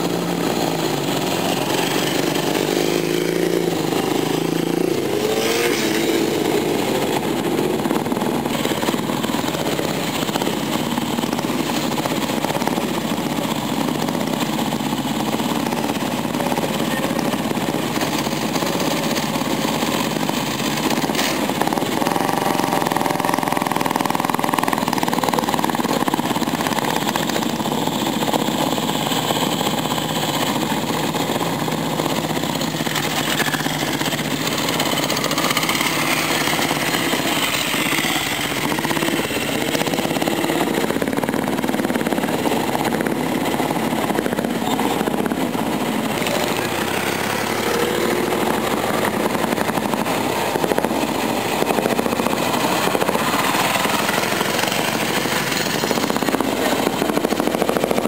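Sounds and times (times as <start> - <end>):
motorcycle engines idling: 0.0 - 58.0.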